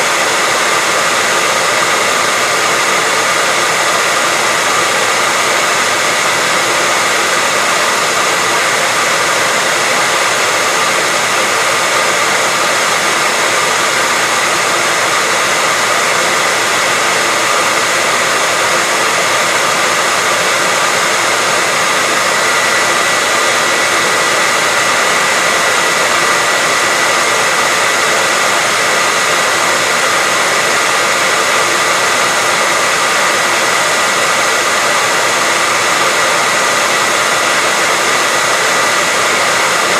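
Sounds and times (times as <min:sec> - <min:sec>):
electric hair dryer running: 0:00.0 - 0:39.9.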